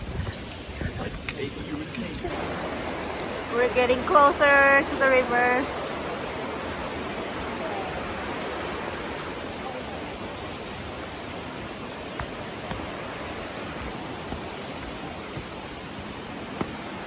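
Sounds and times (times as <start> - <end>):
river water rushing: 2.2 - 17.0.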